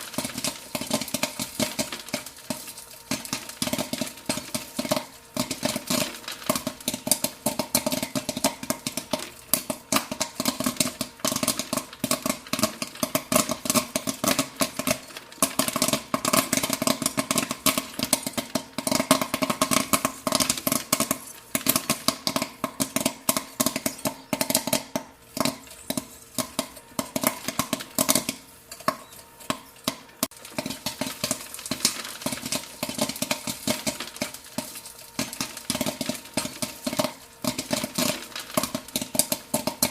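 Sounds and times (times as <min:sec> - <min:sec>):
popcorn popping: 0:00.0 - 0:39.9.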